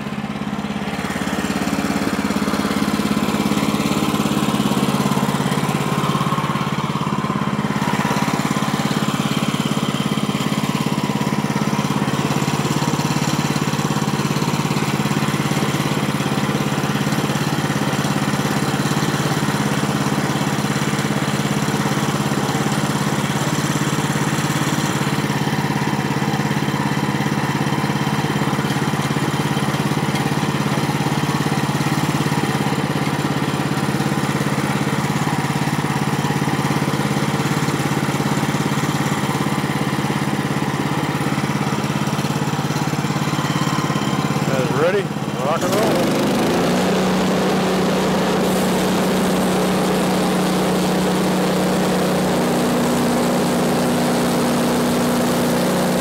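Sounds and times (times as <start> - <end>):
sawmill engine running steadily: 0.0 - 56.0.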